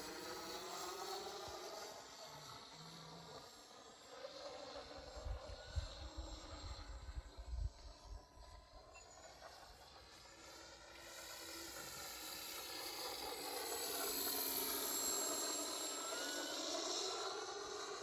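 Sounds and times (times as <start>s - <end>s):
model airplane motor whine: 0.0s - 18.0s.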